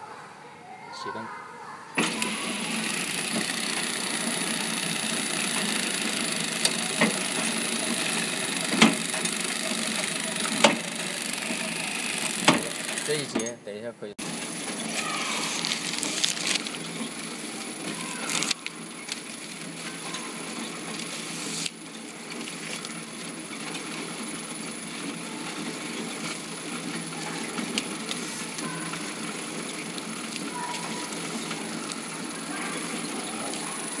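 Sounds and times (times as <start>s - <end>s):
packing machine running: 2.0s - 13.6s, 14.2s - 34.0s.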